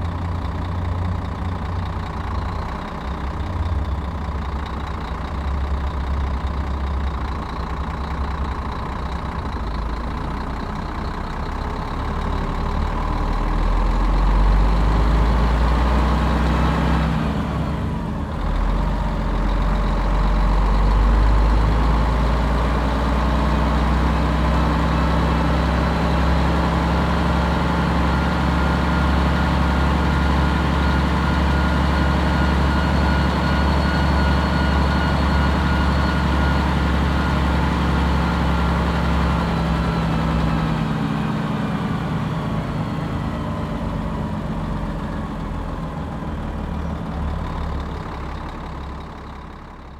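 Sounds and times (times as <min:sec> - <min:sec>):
bus engine rumbling: 0:00.0 - 0:49.9.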